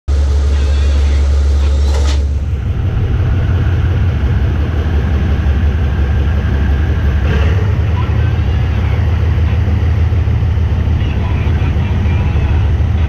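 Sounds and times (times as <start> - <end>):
diesel locomotive engine rumbling: 0.1 - 13.0.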